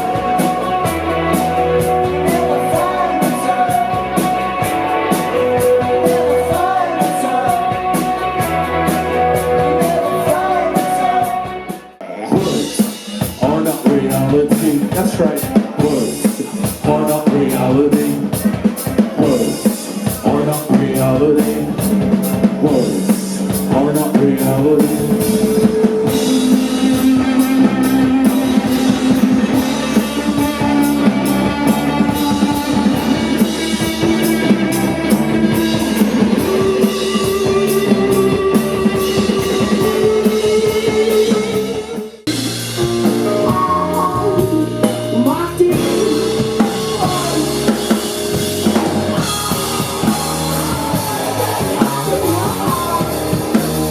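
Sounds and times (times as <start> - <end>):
person singing: 0.0 - 42.2, 43.2 - 53.9
rock band playing: 0.0 - 53.9.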